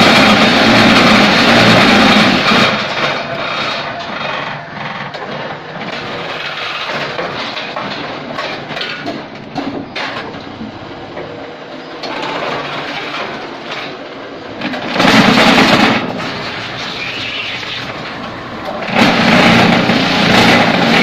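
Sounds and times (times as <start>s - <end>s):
machine clanks: 0.0s - 10.6s, 12.0s - 21.0s
block making machine running: 0.0s - 21.0s.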